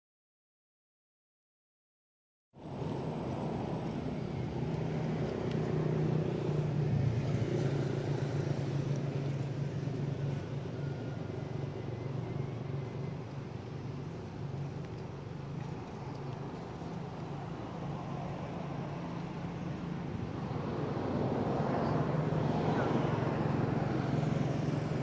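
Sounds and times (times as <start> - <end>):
outdoor background noise: 2.5 - 25.0.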